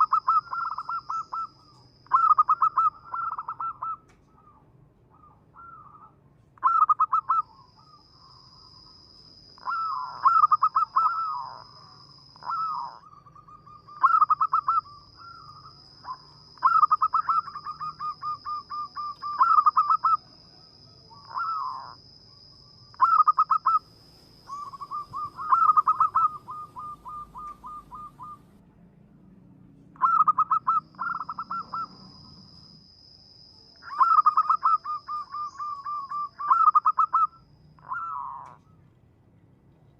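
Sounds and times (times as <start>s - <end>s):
dove cooing: 0.0s - 8.0s, 9.6s - 22.0s, 23.0s - 28.6s, 30.0s - 32.5s, 33.8s - 38.9s.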